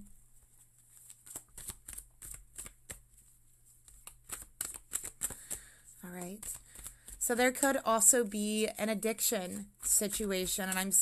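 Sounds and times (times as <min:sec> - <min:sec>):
cards being shuffled: 0:00.4 - 0:07.8, 0:08.7 - 0:11.0.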